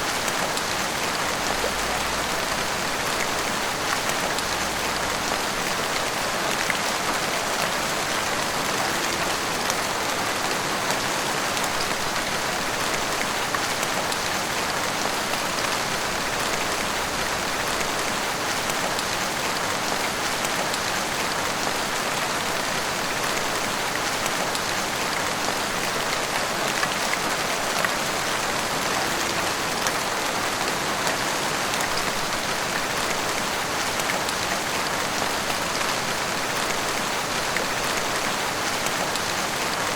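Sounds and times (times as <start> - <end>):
heavy rain falling: 0.0 - 39.9
raindrops pattering on rooftops: 0.0 - 39.9.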